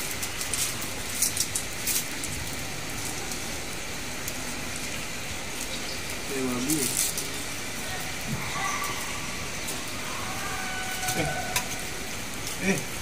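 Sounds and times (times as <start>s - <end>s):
garlic sizzling in oil: 0.0s - 13.0s.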